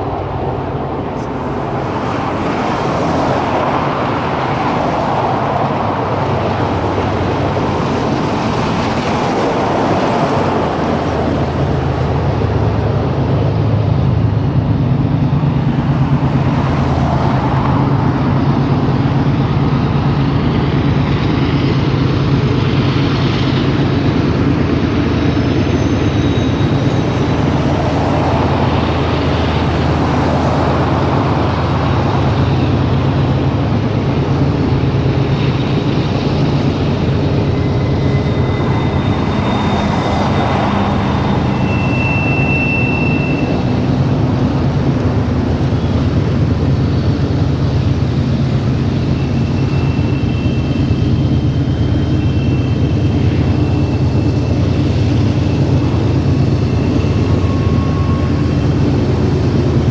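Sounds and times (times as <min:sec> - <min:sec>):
train engine drone: 0:00.0 - 0:59.9
train rolling noise: 0:00.0 - 0:59.9.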